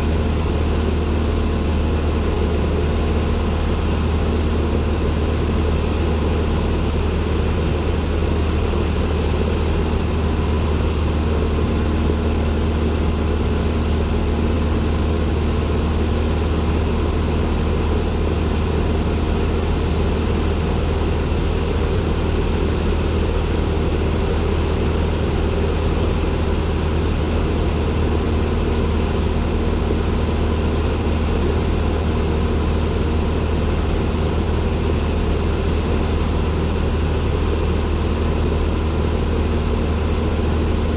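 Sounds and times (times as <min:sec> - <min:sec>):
aircraft engine and propeller droning: 0:00.0 - 0:40.9.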